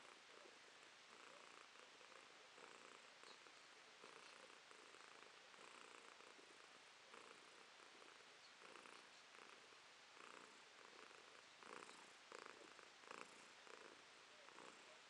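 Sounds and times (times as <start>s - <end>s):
cat purring softly: 0.0s - 15.0s.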